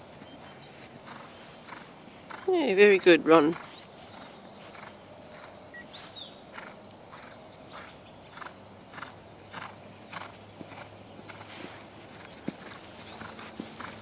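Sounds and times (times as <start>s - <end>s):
horse hoofbeats on sand: 0.0s - 14.0s.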